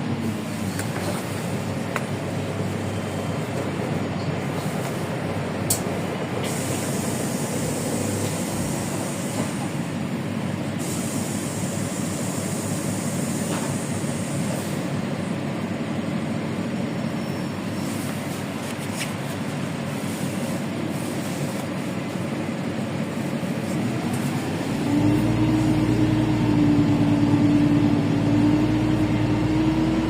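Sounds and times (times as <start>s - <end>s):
bus engine rumble: 0.0s - 30.0s
road noise: 0.0s - 30.0s.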